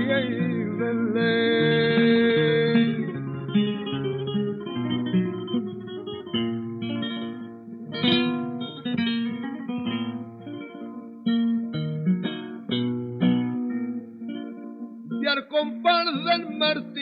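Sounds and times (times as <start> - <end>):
flamenco guitar playing: 0.0 - 17.0.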